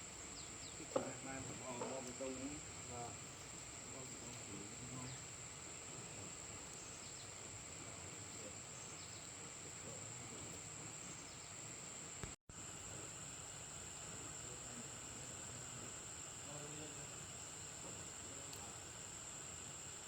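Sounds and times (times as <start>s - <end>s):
high-pitched insect chorus: 0.0s - 20.0s
outdoor background noise: 0.0s - 20.0s.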